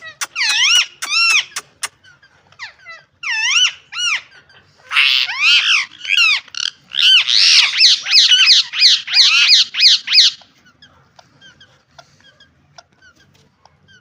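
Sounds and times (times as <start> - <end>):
parakeets squawking: 0.0 - 14.0.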